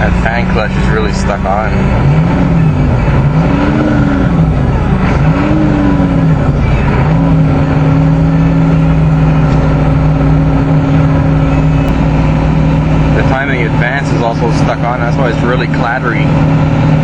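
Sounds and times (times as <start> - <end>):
diesel engine revving and idling: 0.0 - 17.0
engine cooling fan: 0.0 - 17.0.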